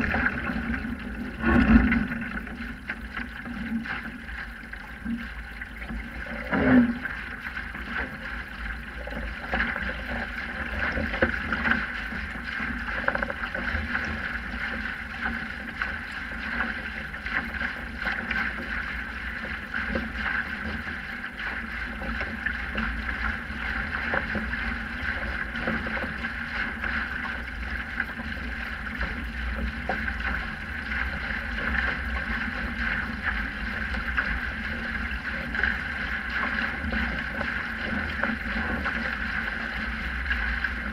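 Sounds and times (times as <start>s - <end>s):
water rushing along hull: 0.0s - 40.9s.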